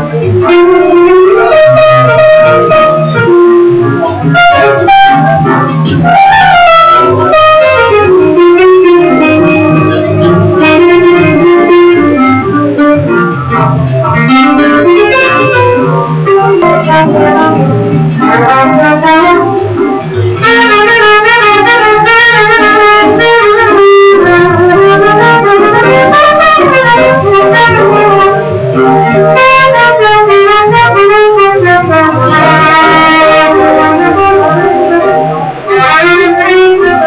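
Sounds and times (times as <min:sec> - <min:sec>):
jazz band with brass: 0:00.0 - 0:37.0.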